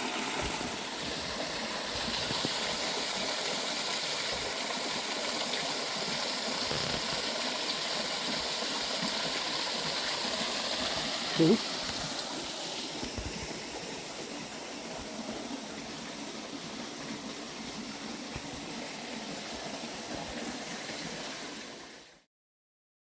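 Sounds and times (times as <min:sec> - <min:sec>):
waterfall splashing over rocks: 0:00.0 - 0:22.2.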